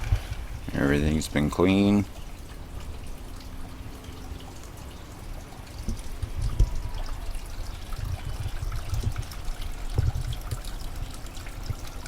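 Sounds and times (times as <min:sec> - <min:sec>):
water trickling in stream: 0:00.0 - 0:12.0.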